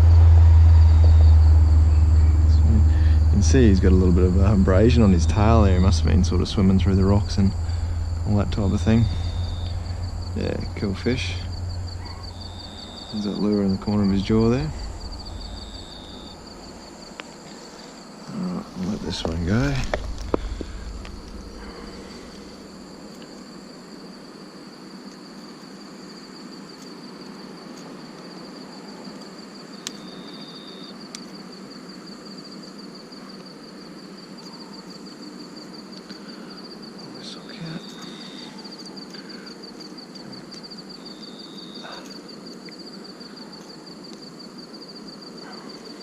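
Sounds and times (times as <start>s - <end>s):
insects trilling: 0.0s - 46.0s
short insect call: 0.0s - 46.0s.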